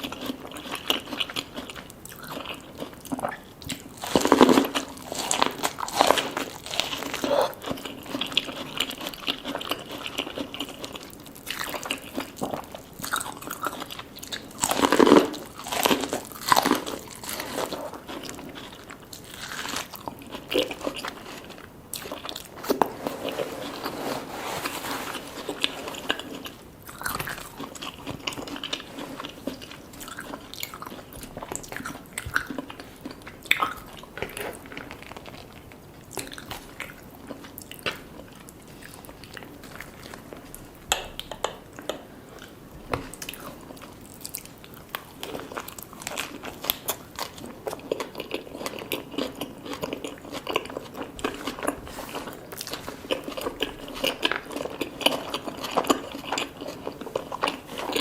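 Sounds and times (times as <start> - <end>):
person crunching food: 0.0 - 58.0.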